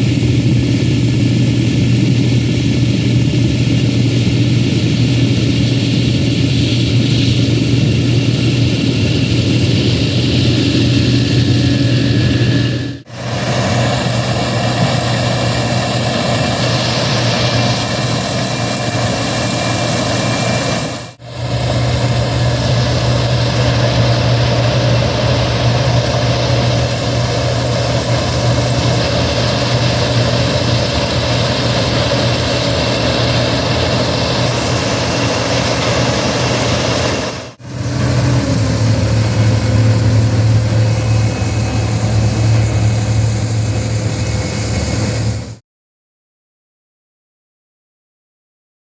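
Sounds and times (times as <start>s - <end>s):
heavy machinery engine humming: 0.0s - 45.6s.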